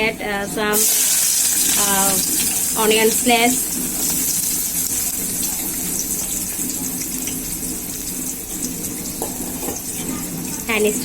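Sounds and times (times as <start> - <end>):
onions sizzling in oil: 0.1 - 11.0.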